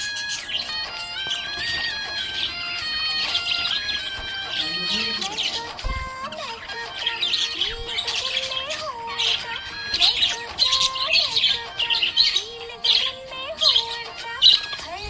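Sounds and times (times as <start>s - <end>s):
background music gliding melody: 0.0s - 15.0s
budgerigar chirping and warbling: 0.0s - 15.0s.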